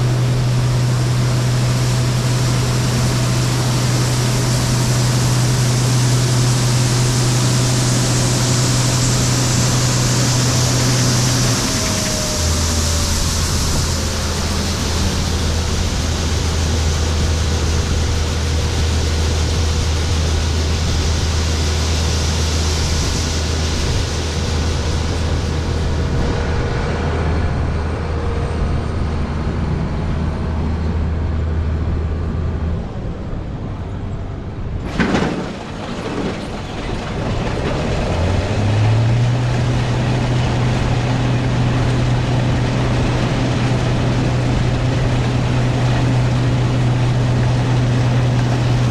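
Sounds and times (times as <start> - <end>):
combine engine and threshing machinery: 0.0 - 48.9.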